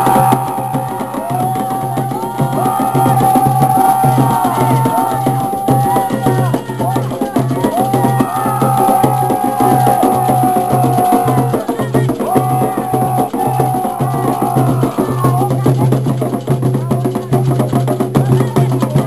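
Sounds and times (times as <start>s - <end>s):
drums beating a steady pulse: 0.0s - 19.0s.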